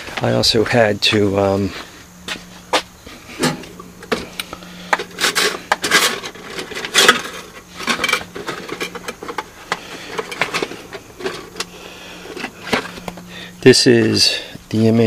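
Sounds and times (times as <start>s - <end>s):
faint steady hum: 0.0s - 15.0s
rubbing and scraping against wood: 1.1s - 13.3s.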